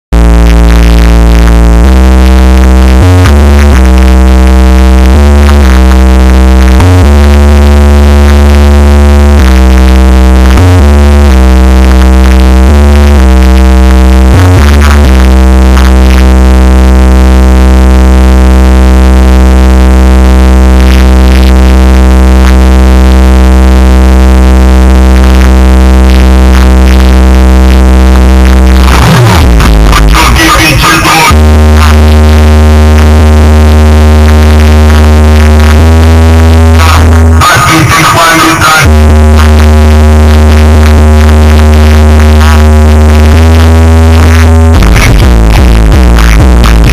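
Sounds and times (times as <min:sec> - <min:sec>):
bass-heavy electronic music: 0:00.0 - 0:46.9.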